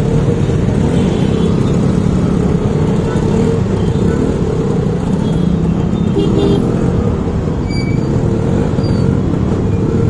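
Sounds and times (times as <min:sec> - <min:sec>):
scooter engines in traffic: 0:00.0 - 0:10.0.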